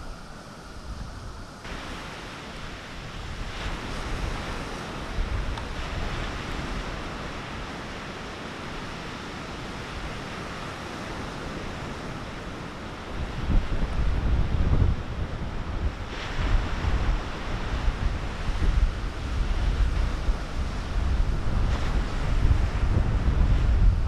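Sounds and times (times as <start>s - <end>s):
sea surf washing ashore: 0.0s - 24.0s
wind on microphone: 0.0s - 24.0s.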